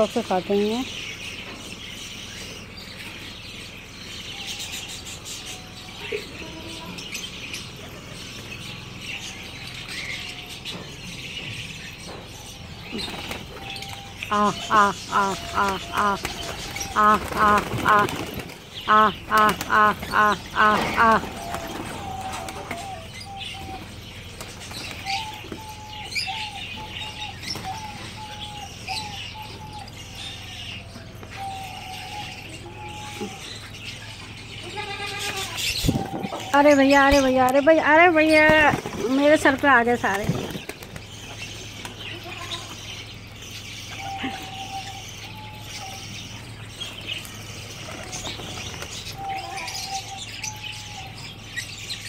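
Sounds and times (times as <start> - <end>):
birds chirping: 0.0 - 52.0
steady low hum: 0.0 - 52.0.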